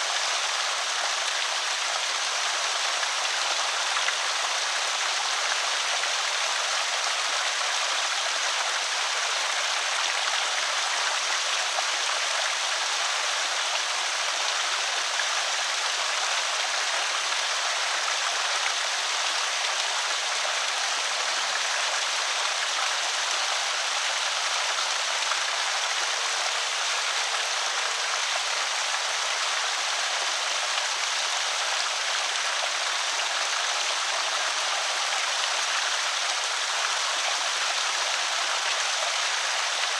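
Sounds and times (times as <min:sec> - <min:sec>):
water pouring over spillway: 0:00.0 - 0:39.9.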